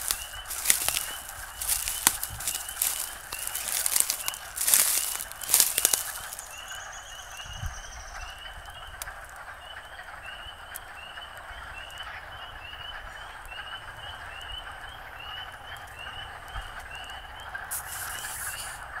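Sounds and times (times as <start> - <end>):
frogs chorus chattering: 0.0 - 19.0.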